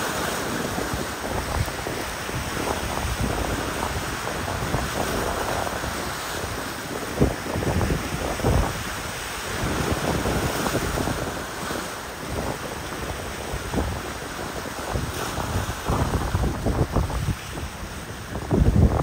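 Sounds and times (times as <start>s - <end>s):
choppy water washing: 0.0s - 19.0s
wind gusting against microphone: 0.0s - 19.0s.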